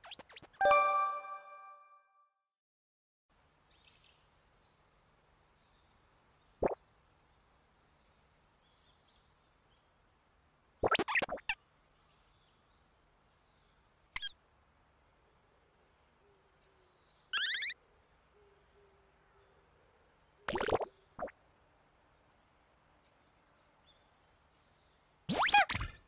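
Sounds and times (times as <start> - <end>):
faint high birdsong chirps: 3.4 - 26.0.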